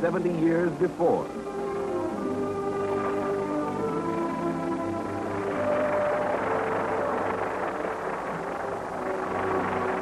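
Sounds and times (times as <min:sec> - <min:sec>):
faint music tones: 0:00.0 - 0:10.0
steady rushing noise: 0:00.0 - 0:10.0.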